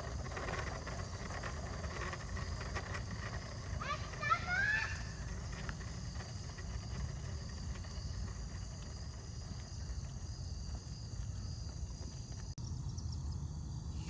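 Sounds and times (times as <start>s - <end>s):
insect-like high drone: 0.0s - 14.0s
low outdoor rumble: 0.0s - 14.0s.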